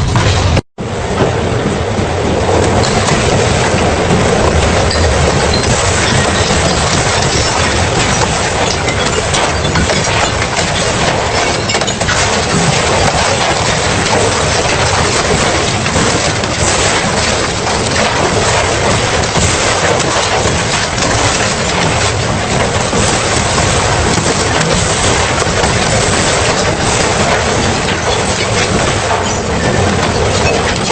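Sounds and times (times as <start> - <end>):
shredder crunching metal scrap: 2.7 - 30.9.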